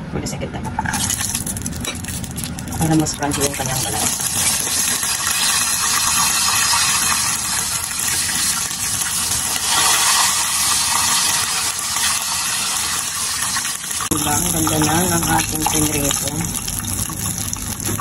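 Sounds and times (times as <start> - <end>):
hot oil sizzling: 0.9 - 18.0.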